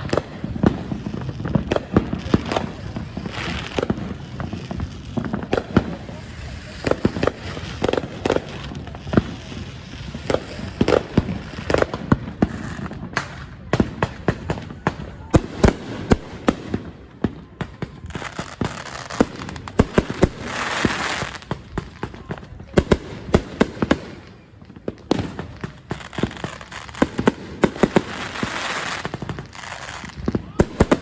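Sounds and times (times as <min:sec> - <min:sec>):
fireworks bangs and pops: 0:00.0 - 0:31.0
fireworks hissing burst: 0:00.0 - 0:31.0.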